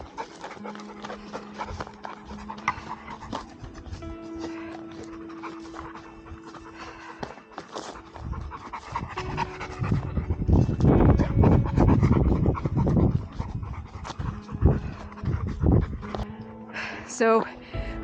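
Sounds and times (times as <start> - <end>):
dog panting: 0.0 - 17.1.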